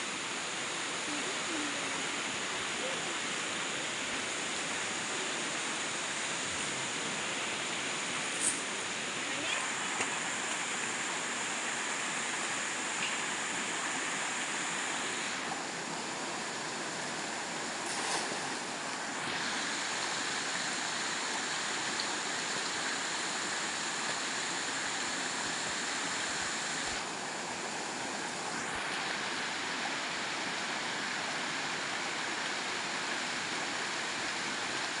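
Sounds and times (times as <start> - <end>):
river rapids rushing over rocks: 0.0 - 35.0.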